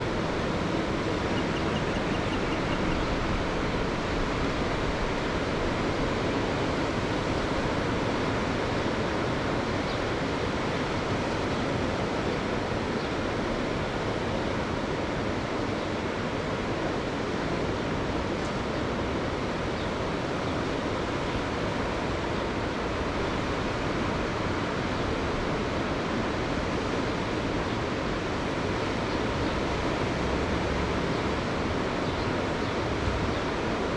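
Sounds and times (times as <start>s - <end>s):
sea waves washing: 0.0s - 33.9s.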